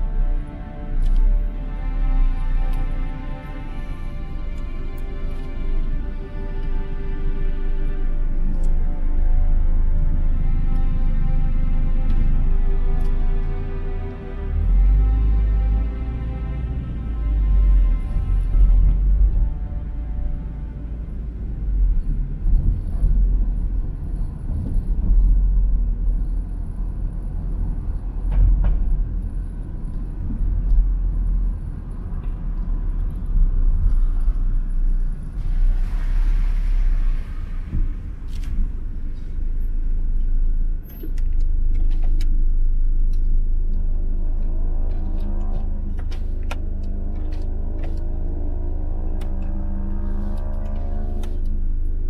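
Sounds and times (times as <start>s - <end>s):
car engine and road rumble: 0.0s - 52.0s
music: 0.0s - 52.0s.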